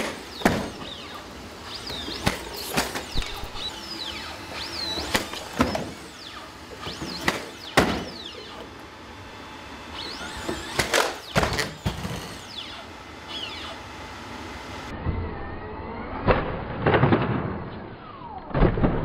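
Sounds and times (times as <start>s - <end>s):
robot hydraulics whining: 0.0s - 16.2s.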